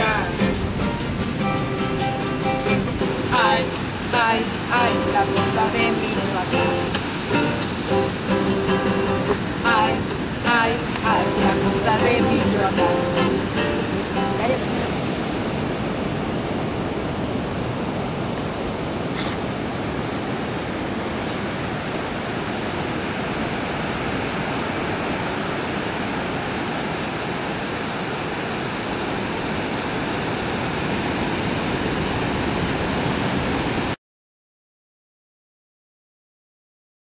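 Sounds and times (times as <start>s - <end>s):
ocean surf breaking on beach: 0.0s - 34.0s.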